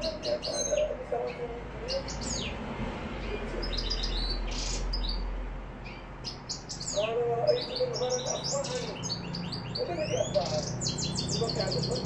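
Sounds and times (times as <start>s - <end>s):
goldfinch singing: 0.0s - 2.6s, 3.2s - 5.2s, 5.8s - 12.0s.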